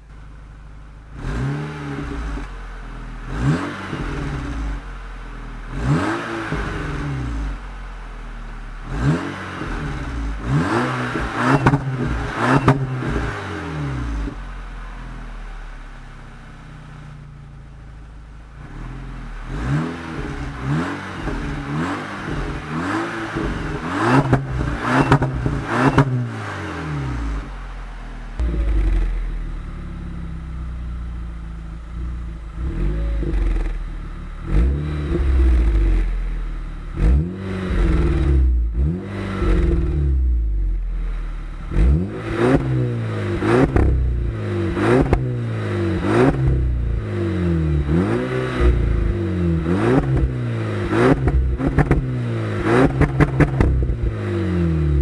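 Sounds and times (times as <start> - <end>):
car engine revving: 1.1 - 15.7, 18.5 - 55.0.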